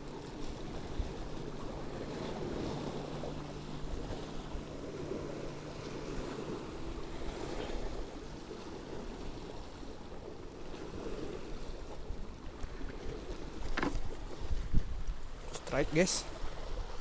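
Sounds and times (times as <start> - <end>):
sea water washing: 0.0 - 17.0
wind on microphone: 0.0 - 17.0.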